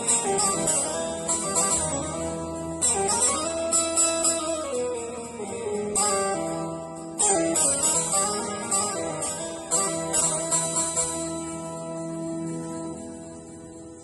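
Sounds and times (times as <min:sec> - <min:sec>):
plucked string music: 0:00.0 - 0:14.0.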